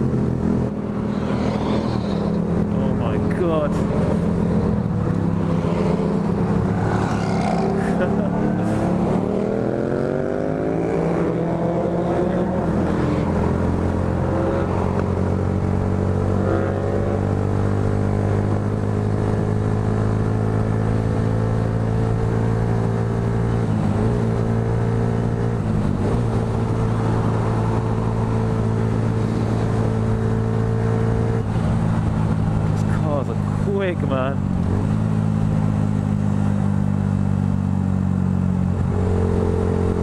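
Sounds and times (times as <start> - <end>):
motorcycle engine accelerating: 0.0 - 33.0, 33.6 - 40.0
road noise: 0.0 - 40.0.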